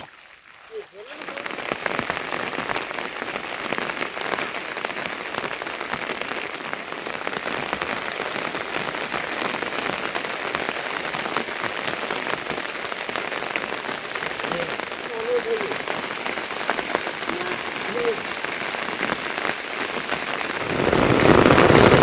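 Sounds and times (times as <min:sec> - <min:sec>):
steady rain pattering: 0:00.0 - 0:22.0.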